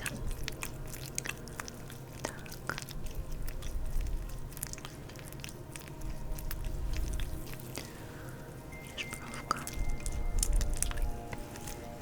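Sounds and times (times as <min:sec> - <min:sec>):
oily hands rubbing and squishing: 0:00.0 - 0:12.0.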